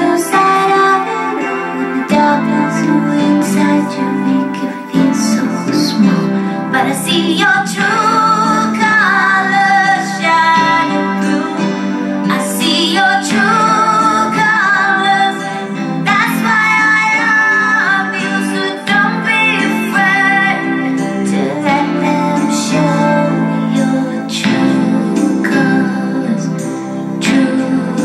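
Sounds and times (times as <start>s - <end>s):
instrumental backing music: 0.0s - 28.0s
woman singing: 0.0s - 28.0s.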